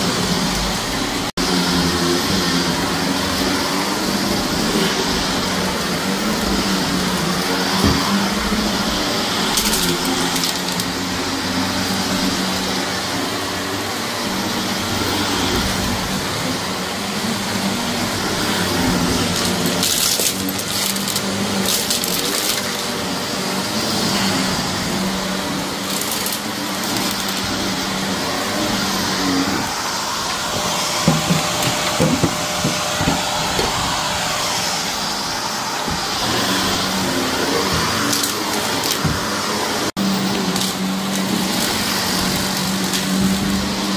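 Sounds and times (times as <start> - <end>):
vacuum cleaner motor humming: 0.0 - 43.9.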